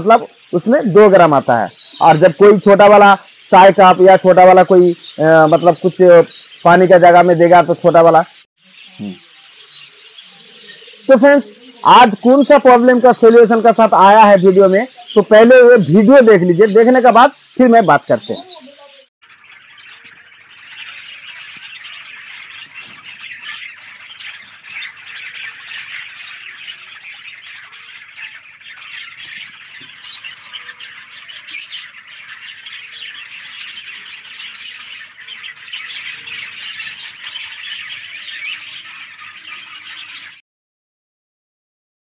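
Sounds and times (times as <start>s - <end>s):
budgerigars chattering and squawking: 0.0s - 40.4s.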